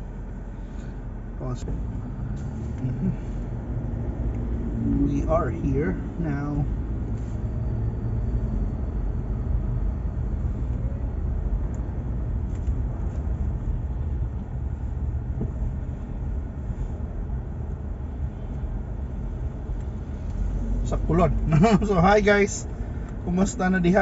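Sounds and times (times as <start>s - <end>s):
car interior driving rumble: 0.0s - 24.0s.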